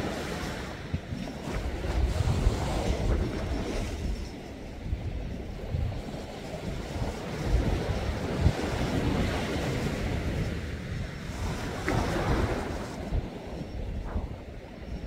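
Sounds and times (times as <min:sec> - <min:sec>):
sea waves washing: 0:00.0 - 0:15.0
wind rumbling on microphone: 0:00.0 - 0:15.0.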